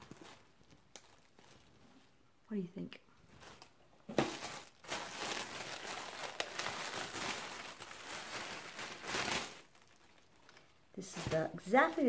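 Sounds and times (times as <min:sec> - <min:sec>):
plastic bag crinkling: 0:00.0 - 0:01.9, 0:03.3 - 0:12.0.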